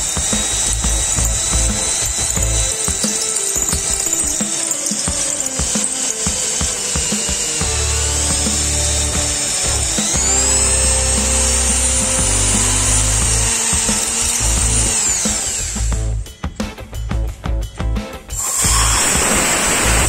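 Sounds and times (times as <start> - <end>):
electric drill whining: 0.0 - 16.2, 18.4 - 20.0.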